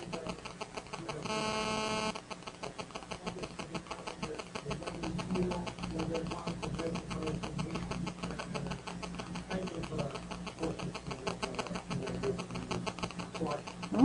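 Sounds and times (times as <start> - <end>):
electrical hum and buzz: 0.0 - 14.0
faint indistinct speech: 0.0 - 14.0.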